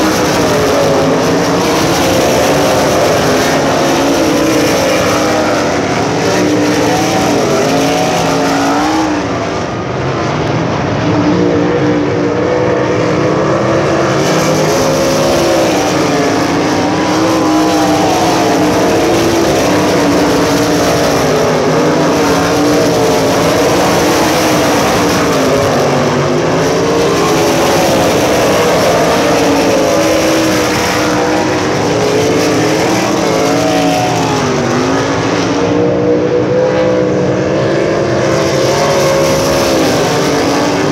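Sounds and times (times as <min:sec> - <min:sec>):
race car engines: 0:00.0 - 0:40.9.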